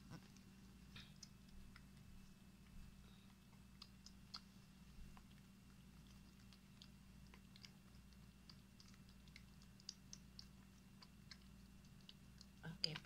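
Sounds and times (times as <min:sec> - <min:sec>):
low steady hum: 0:00.0 - 0:13.0
cat licking wet clicks: 0:00.5 - 0:13.0.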